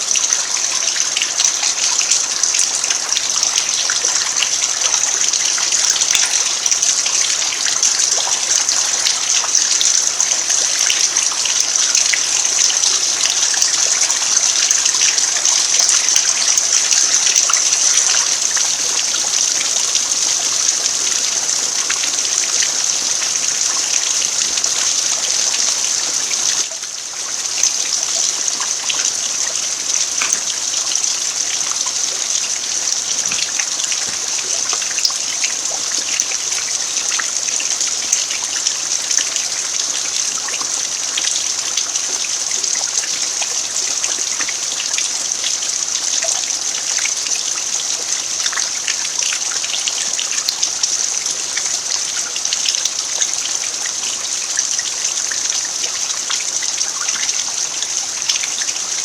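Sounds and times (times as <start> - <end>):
rain falling on dirt: 0.0 - 59.0.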